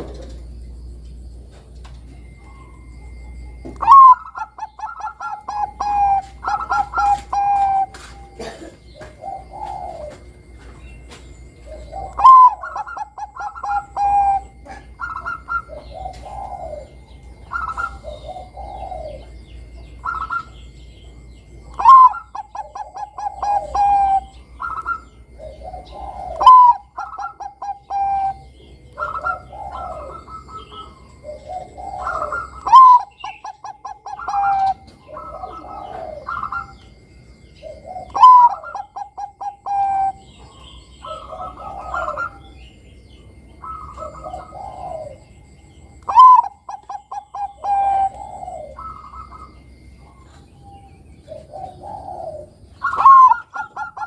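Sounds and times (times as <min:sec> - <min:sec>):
dove cooing song: 0:00.0 - 0:54.0.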